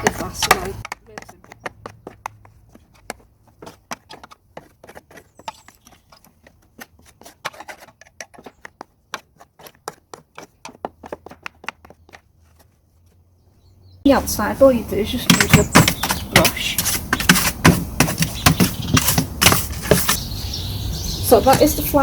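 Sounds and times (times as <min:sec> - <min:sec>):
plastic spanner scraping grass: 0:00.0 - 0:13.2, 0:15.2 - 0:20.4.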